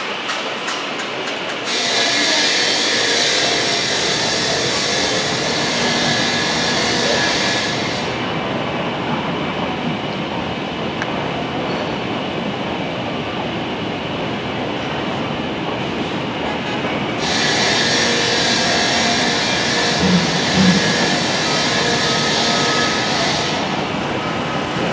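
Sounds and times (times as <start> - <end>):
train rumbling and rattling: 0.0 - 24.9.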